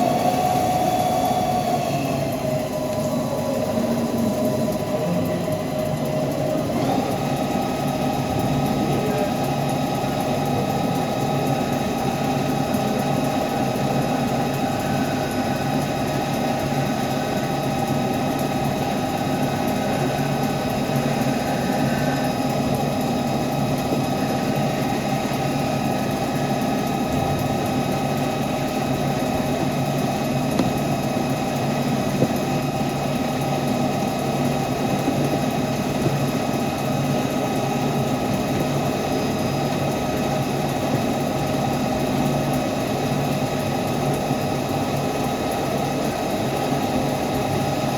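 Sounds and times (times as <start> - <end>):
lathe humming with high tones: 0.0 - 47.9.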